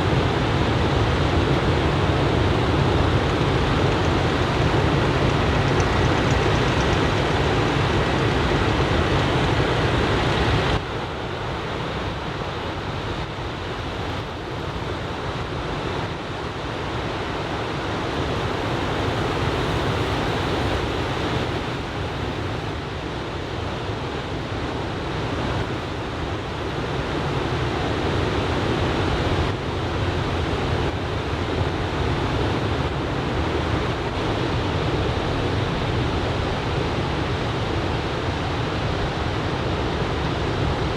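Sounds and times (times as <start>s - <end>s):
ocean surf washing on beach: 0.0s - 40.9s
wind on microphone: 0.0s - 40.9s.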